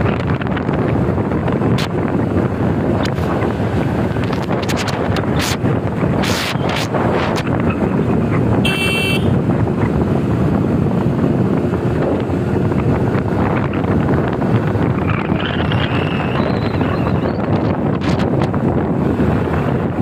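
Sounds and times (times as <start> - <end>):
road and engine rumble: 0.0 - 20.0
wind rushing over microphone: 0.0 - 20.0.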